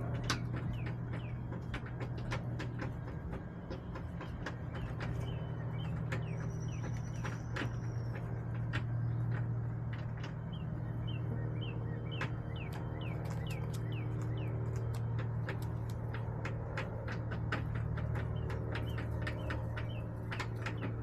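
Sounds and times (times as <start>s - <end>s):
sharp clicks: 0.0s - 21.0s
steady low hum: 0.0s - 21.0s.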